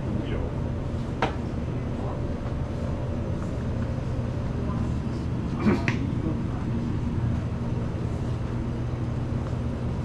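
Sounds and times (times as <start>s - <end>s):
drink cooler electrical hum: 0.0s - 10.0s.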